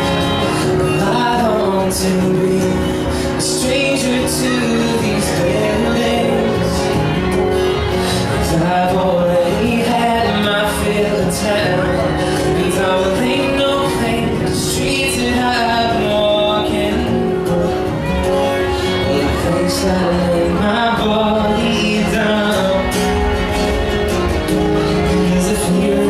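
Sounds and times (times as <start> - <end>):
man singing: 0.0 - 26.0
strummed acoustic guitar: 0.0 - 26.0.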